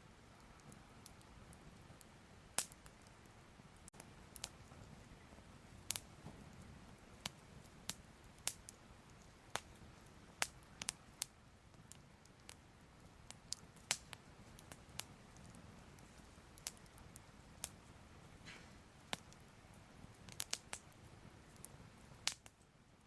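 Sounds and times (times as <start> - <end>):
fire crackling with pops: 0.0 - 23.0.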